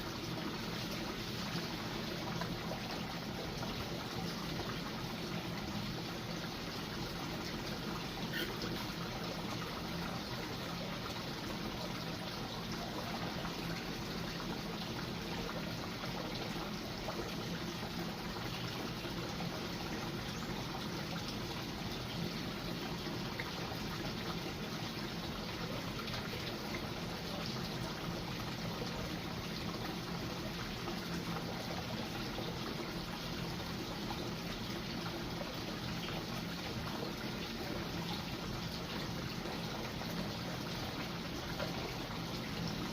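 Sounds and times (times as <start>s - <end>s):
water trickling and splashing: 0.0s - 42.9s.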